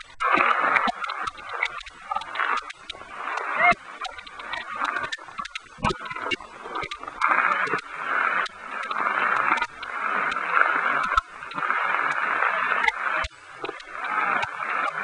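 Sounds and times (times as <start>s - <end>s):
heavy rain hissing: 0.0s - 15.0s
raindrops ticking close by: 0.0s - 15.0s.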